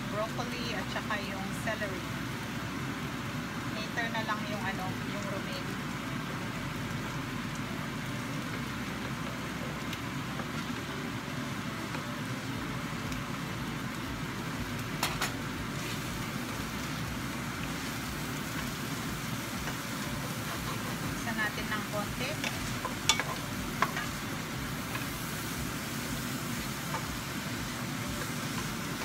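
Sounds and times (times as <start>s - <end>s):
vegetables sizzling in a frying pan: 0.0s - 29.0s.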